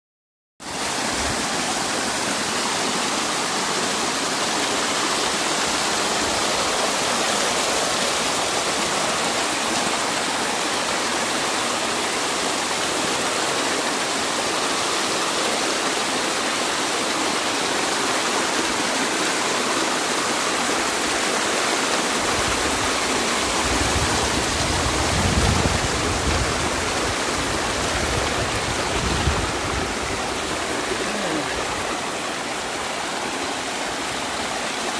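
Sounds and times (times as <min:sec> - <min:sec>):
creek water splashing over rocks: 0:00.6 - 0:34.9.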